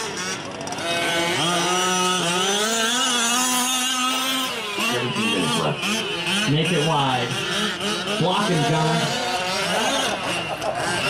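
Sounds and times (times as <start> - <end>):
small two-stroke engines revving: 0.0 - 11.0.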